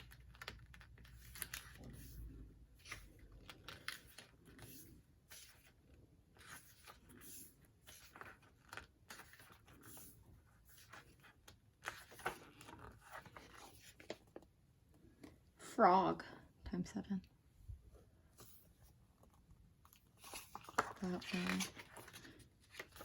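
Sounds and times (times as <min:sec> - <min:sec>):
paper and card rustling: 0:00.0 - 0:15.4, 0:18.0 - 0:23.0.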